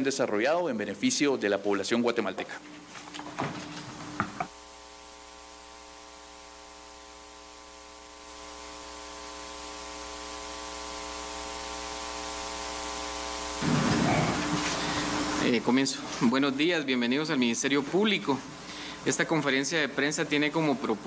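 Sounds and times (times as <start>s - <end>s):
electrical hiss and buzzing hum: 0.0s - 21.0s.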